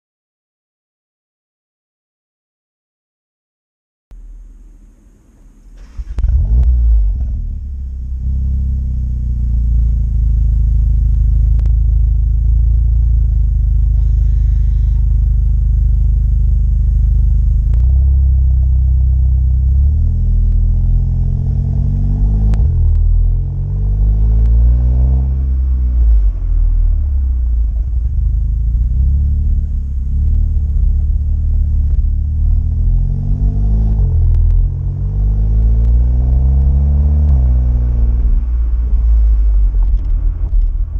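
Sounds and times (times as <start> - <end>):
car engine revving and idling: 4.2 - 40.9.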